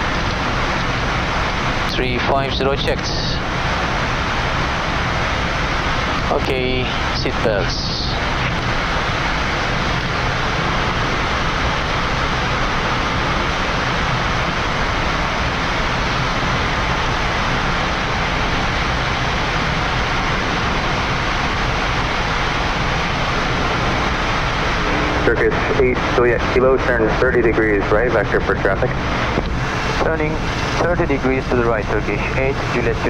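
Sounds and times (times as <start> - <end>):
airflow and aircraft engines rushing: 0.0 - 33.0.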